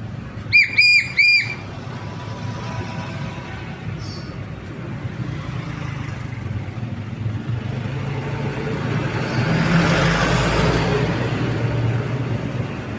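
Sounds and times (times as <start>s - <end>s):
vehicle engine humming: 0.0s - 12.9s
vehicle passing: 0.0s - 12.9s.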